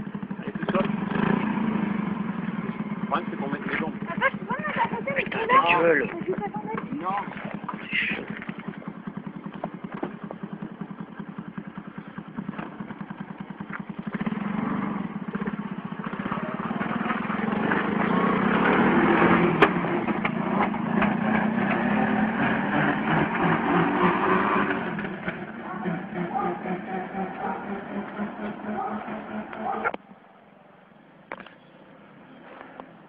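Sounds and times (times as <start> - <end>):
small engine idling and revving: 0.0 - 30.0.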